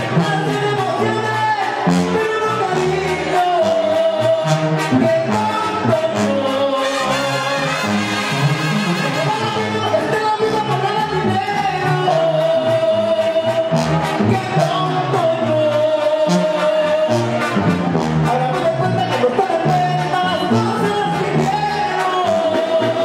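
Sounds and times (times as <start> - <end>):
brass band playing: 0.0 - 23.0
man singing: 0.0 - 23.0.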